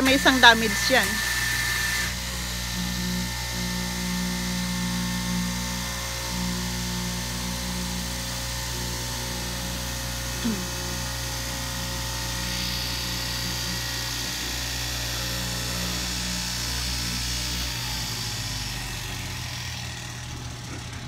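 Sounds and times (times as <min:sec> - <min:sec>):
electric cloth-cutting machine running: 0:00.0 - 0:21.0.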